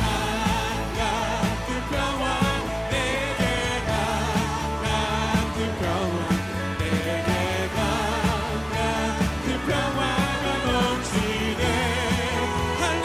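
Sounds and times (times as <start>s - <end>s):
steady drum beat: 0.0s - 13.0s
voices singing: 0.0s - 13.0s
worship band playing: 0.0s - 13.0s.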